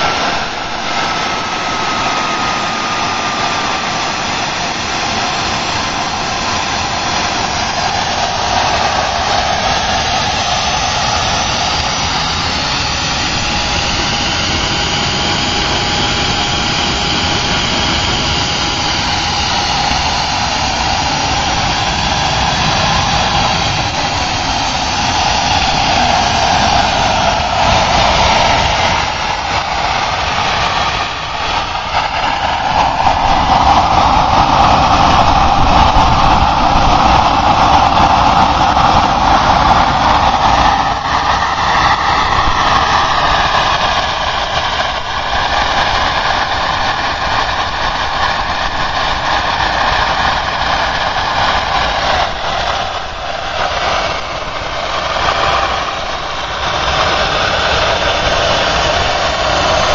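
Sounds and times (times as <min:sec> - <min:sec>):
jet engine running with whine: 0:00.0 - 0:59.9.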